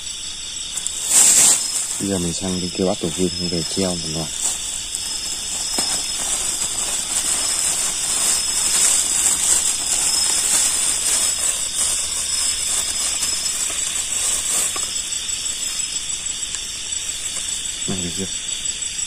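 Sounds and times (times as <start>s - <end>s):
night insects chorus: 0.0s - 19.0s
plastic bag crinkling: 0.7s - 18.2s.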